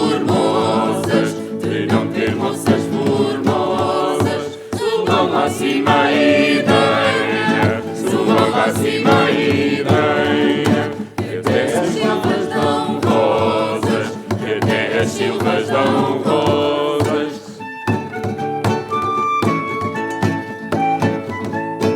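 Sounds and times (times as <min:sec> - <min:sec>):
vocal ensemble singing in harmony: 0:00.0 - 0:19.0.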